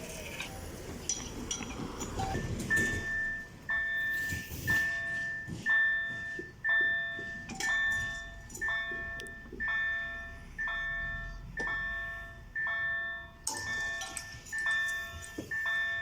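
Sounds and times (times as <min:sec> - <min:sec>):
level crossing warning bell: 0:00.2 - 0:16.0.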